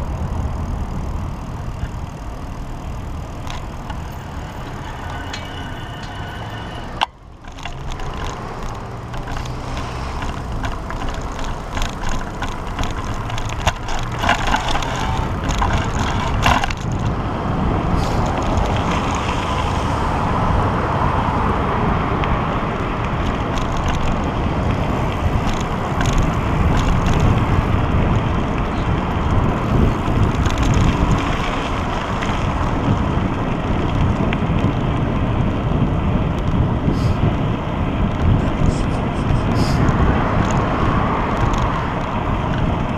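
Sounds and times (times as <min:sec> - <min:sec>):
sharp clicks and rattles: 0:00.0 - 0:17.3, 0:18.0 - 0:20.0, 0:22.2 - 0:36.6, 0:37.9 - 0:42.9
bicycle rolling: 0:00.0 - 0:42.9
wind rumbling on microphone: 0:00.0 - 0:42.9.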